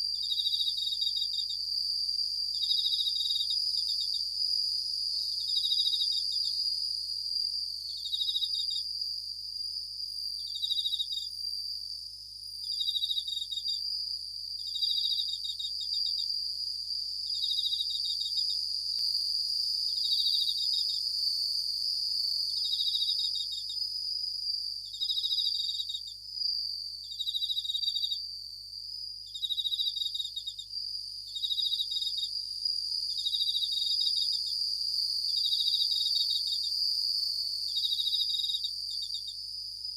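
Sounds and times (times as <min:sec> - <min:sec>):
cricket pulsed ringing trill: 0:00.0 - 0:39.9
high insect chorus: 0:00.0 - 0:39.9.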